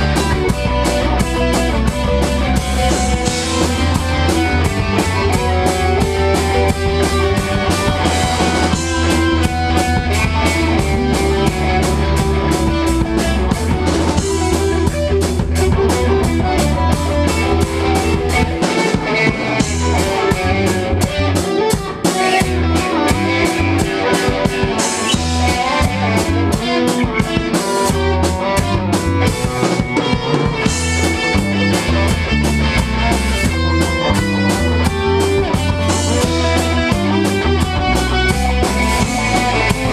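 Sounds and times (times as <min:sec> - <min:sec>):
bass guitar notes: 0:00.0 - 0:39.9
drum kit beat: 0:00.0 - 0:39.9
electric guitars: 0:00.0 - 0:39.9.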